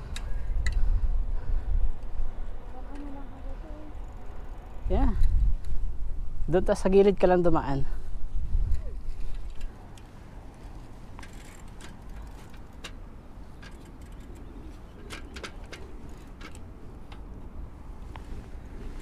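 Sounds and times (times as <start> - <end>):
bike clicks and rattles: 0.0 - 6.2, 8.3 - 19.0
bicycle rumbling: 0.0 - 19.0.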